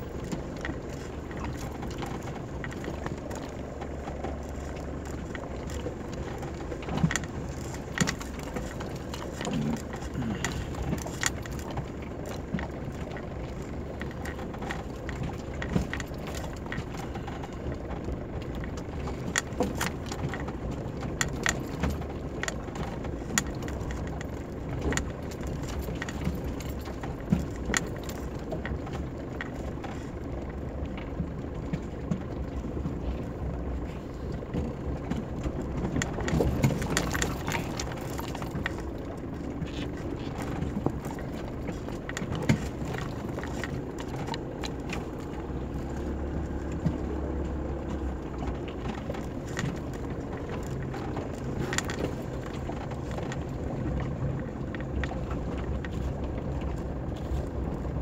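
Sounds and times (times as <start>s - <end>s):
body knocks and rattles: 0.0s - 58.0s
low steady engine note: 0.0s - 58.0s.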